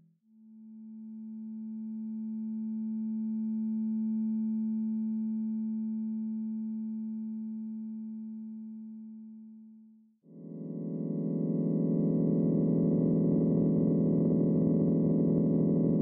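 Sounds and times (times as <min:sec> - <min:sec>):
synthesised sine tone drone: 0:00.0 - 0:09.7, 0:10.3 - 0:16.0.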